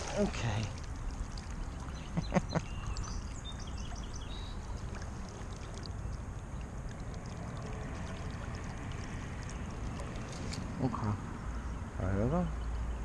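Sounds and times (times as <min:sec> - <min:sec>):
stream water rushing: 0:00.0 - 0:11.7.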